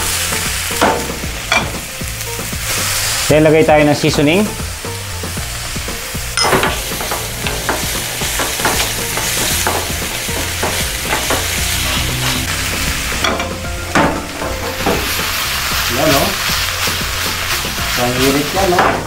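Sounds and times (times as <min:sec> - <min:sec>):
garlic and mushrooms sizzling in oil: 0:00.0 - 0:19.0.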